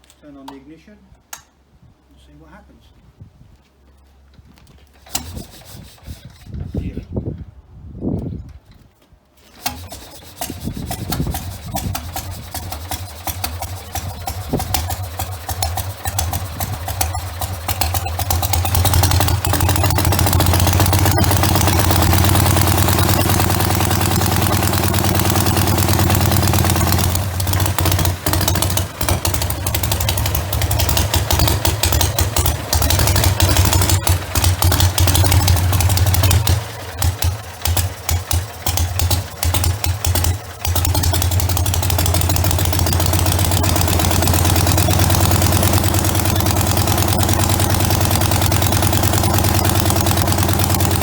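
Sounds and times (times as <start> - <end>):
stationary engine running: 9.6 - 51.0.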